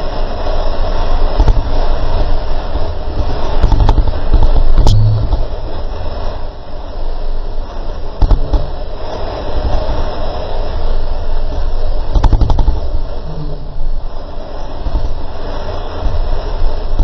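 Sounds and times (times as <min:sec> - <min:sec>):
low rumble aboard a boat: 0:00.0 - 0:17.0.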